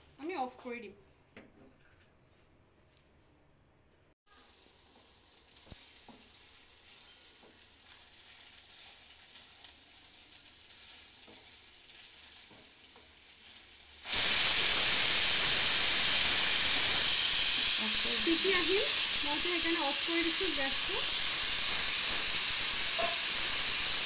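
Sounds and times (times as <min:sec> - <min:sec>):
pressure cooker steam hiss: 0:04.3 - 0:24.0.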